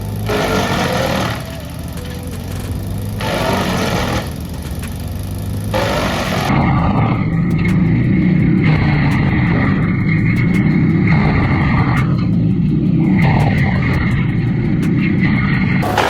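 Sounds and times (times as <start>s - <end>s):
large machine engine running: 0.0s - 16.0s.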